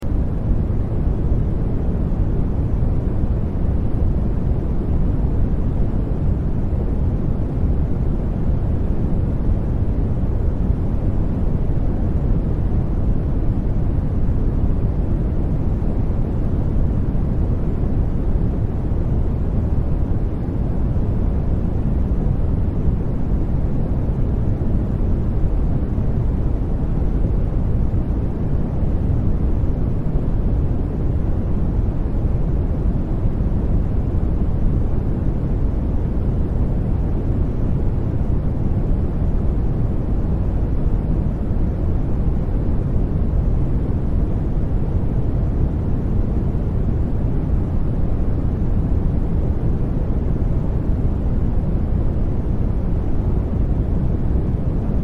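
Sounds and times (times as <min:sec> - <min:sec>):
deep white noise rush: 0:00.0 - 0:55.0.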